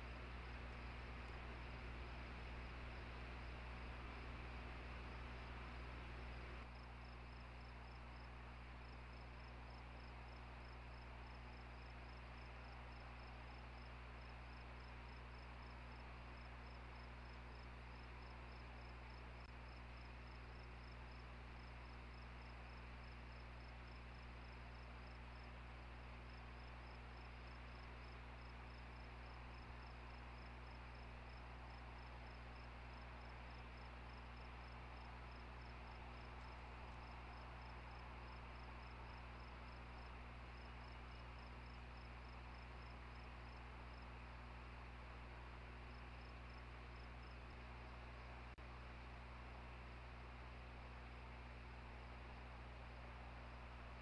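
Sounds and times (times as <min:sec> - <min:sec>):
electrical hum and hiss: 0:00.0 - 0:54.0.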